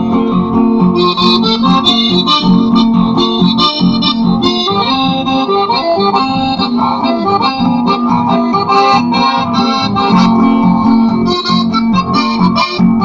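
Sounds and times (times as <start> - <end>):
accordion playing chords: 0.0 - 13.0
strummed guitar: 0.0 - 13.0.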